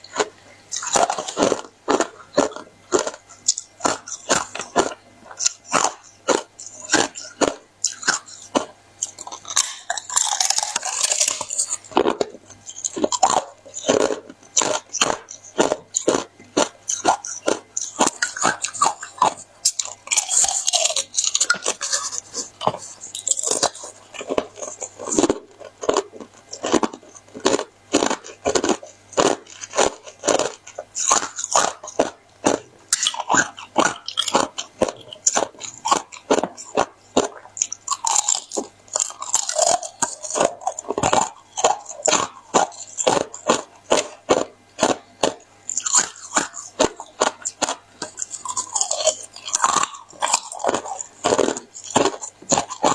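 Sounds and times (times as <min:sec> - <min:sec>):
ice being crunched by teeth: 0:00.8 - 0:52.9.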